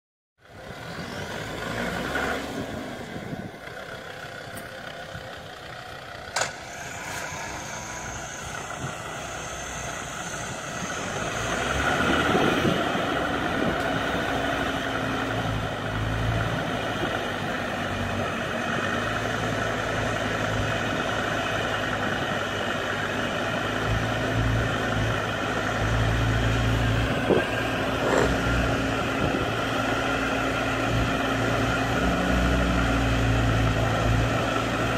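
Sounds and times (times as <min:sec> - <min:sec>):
vehicle engine running: 0:00.4 - 0:34.9.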